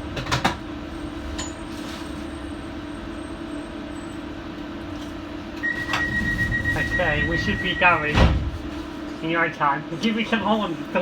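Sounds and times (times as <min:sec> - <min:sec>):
train equipment hum and rumble: 0:00.0 - 0:11.0.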